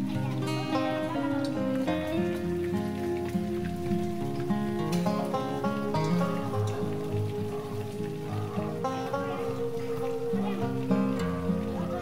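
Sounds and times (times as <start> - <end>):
plucked-string tune: 0.0 - 12.0.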